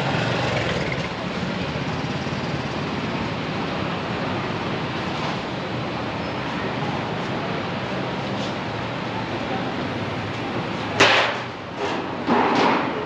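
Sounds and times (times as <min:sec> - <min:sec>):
busy city street noise: 0:00.0 - 0:13.0.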